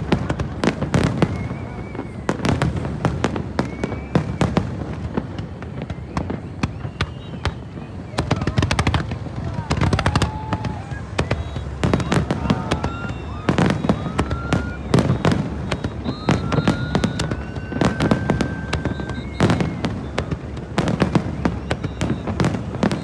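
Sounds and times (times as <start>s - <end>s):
fireworks bangs and crackles: 0.0s - 23.0s
rising firework whistles: 0.0s - 23.0s.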